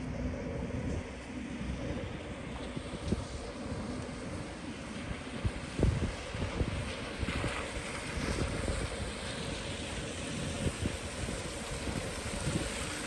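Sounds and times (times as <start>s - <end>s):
steady outdoor hiss: 0.0s - 13.0s
wind buffeting microphone: 0.1s - 13.0s.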